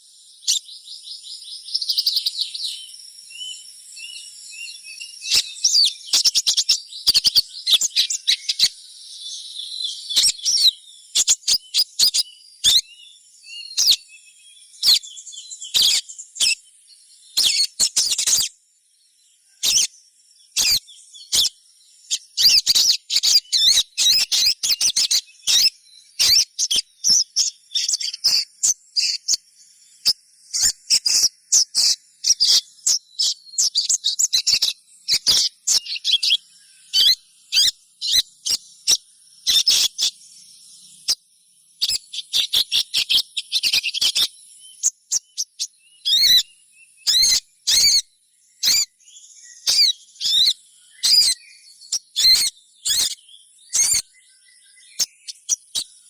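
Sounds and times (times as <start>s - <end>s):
bird sharp high chirps: 0.0s - 18.6s, 19.4s - 56.0s.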